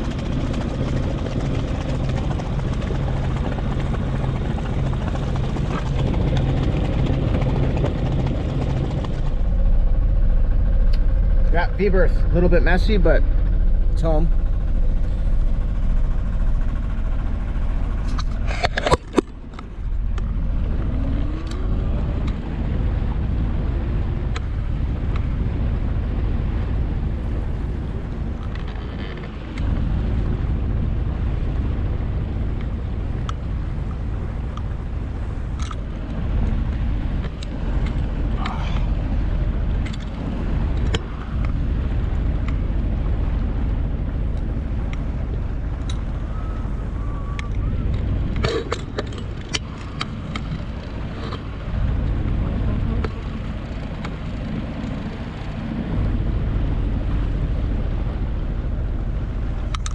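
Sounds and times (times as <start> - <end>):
boat engine droning: 0.0 - 59.9
wind: 0.0 - 59.9.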